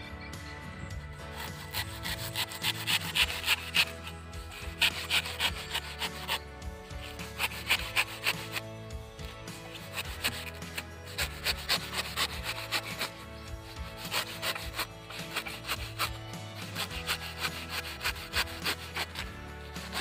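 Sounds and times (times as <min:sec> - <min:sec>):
knife sawing coconut husk: 0:01.2 - 0:20.0.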